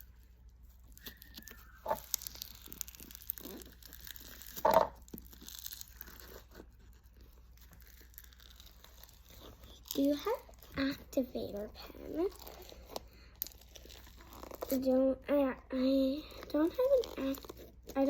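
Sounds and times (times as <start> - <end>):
slime squishing and crackling: 0.0 - 18.0.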